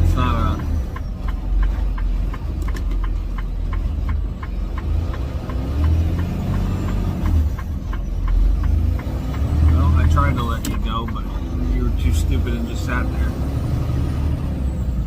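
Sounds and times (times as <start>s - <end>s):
diesel engine rumbling: 0.0s - 15.0s
turn signal ticking: 0.0s - 15.0s.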